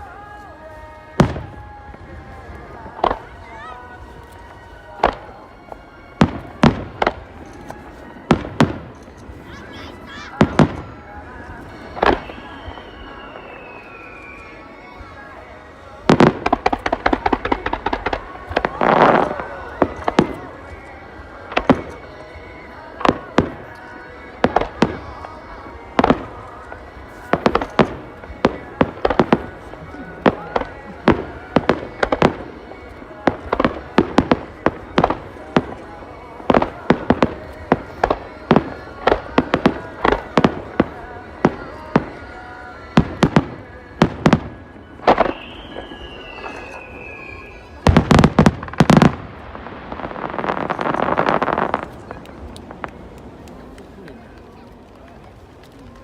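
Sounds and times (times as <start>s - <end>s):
song playing: 0.0s - 52.7s
fireworks bangs: 0.0s - 56.0s.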